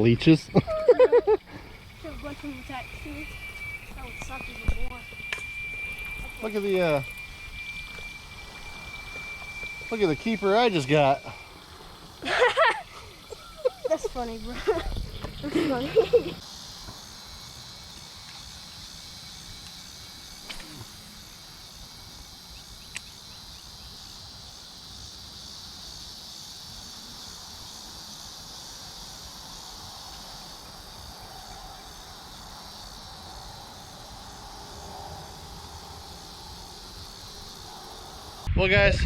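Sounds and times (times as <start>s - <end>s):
insects droning: 0.0s - 38.5s.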